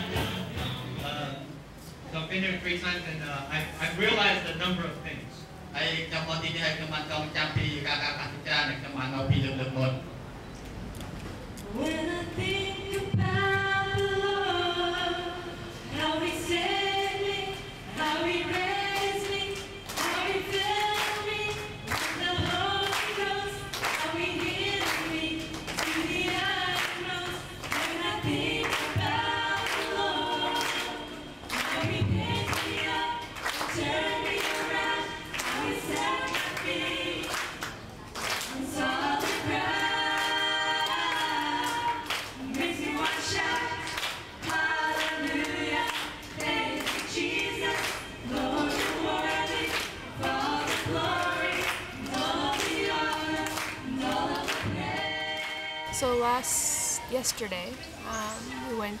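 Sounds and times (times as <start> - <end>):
women singing worship song: 11.6 - 59.0.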